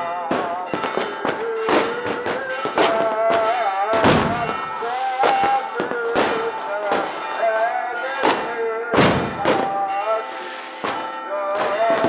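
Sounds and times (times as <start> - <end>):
held wavering melody: 0.0 - 10.4
fireworks bangs and crackles: 0.0 - 12.0.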